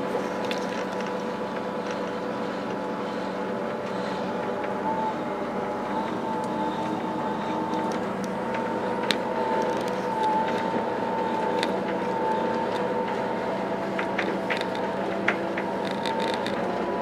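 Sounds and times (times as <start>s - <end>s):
train rumble with whine: 0.0s - 17.0s.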